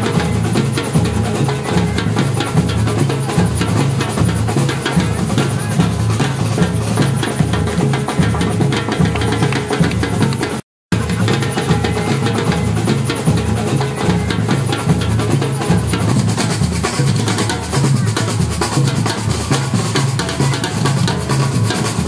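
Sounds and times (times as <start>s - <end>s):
music with driving drum beat: 0.0s - 22.0s.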